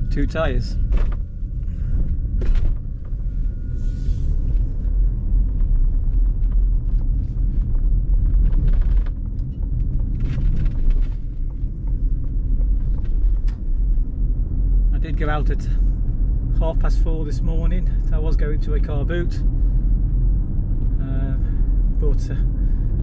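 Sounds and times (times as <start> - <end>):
road and tyre rumble: 0.0 - 23.0.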